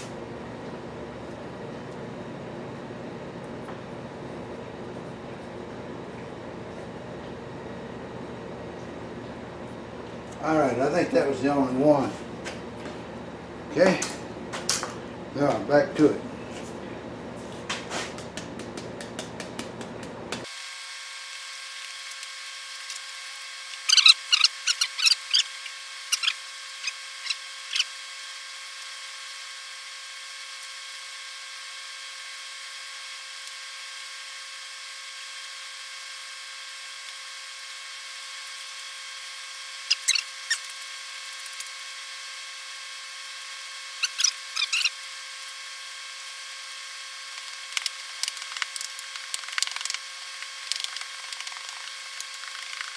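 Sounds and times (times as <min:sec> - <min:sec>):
steady hum: 0:00.0 - 0:20.8, 0:21.5 - 0:29.6, 0:37.4 - 0:52.9.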